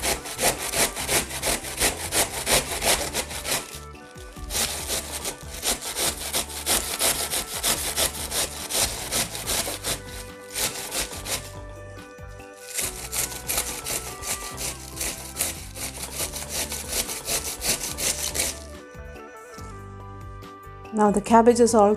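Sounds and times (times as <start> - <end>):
cabbage grating on metal grater: 0.0 - 11.6, 12.6 - 18.7.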